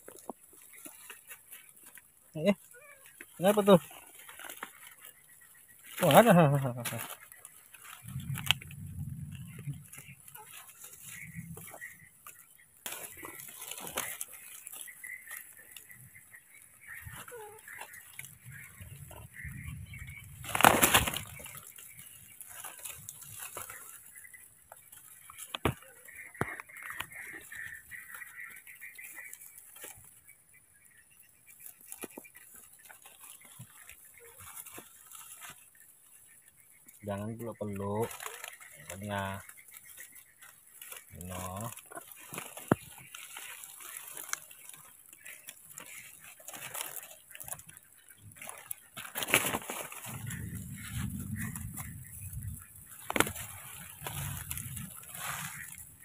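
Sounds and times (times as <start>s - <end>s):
leaves rustling: 0.0s - 56.0s.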